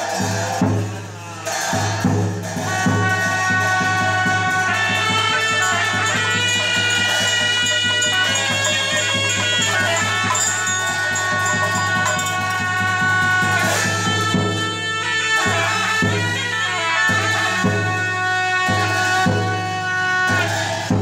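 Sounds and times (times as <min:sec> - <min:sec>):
drum strokes: 0:00.0 - 0:21.0
held wind instrument notes: 0:00.0 - 0:21.0.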